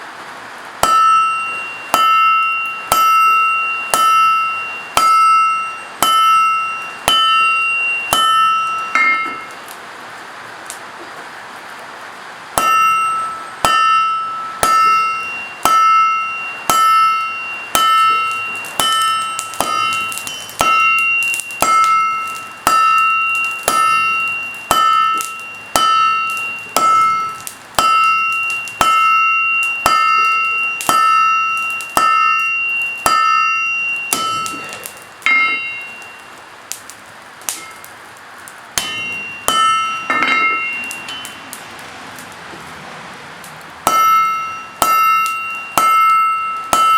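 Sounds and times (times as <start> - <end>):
hammer striking steel on anvil: 0.8 - 9.7, 12.6 - 36.9, 37.5 - 38.0, 38.8 - 42.3, 43.8 - 46.9.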